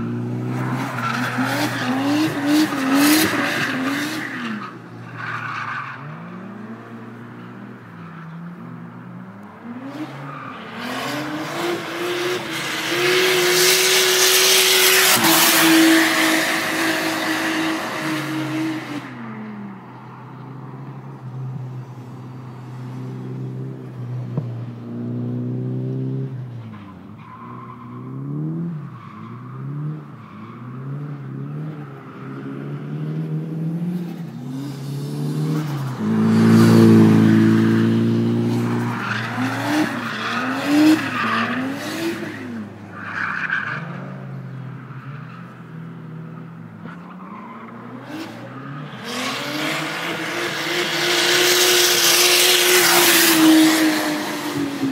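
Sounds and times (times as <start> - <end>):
tyres skidding and squealing: 0.0 - 24.0, 26.3 - 54.9.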